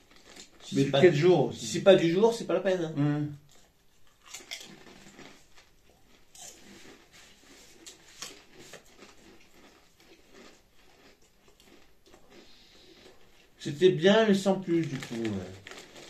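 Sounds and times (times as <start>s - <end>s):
potato chips crunching: 0.0s - 1.3s, 3.4s - 16.0s.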